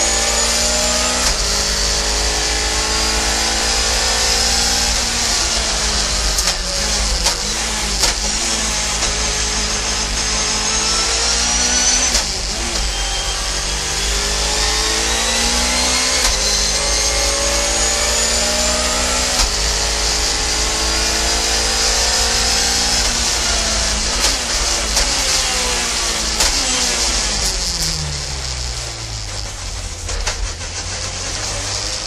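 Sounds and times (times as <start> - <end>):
racing engine revving high: 0.0 - 32.0.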